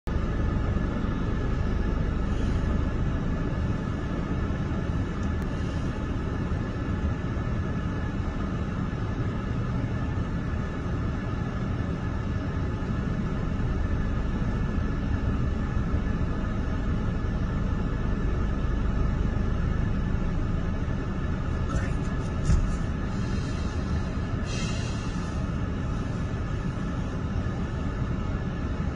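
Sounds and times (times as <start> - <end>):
diesel truck engine idling: 0.1 - 28.9.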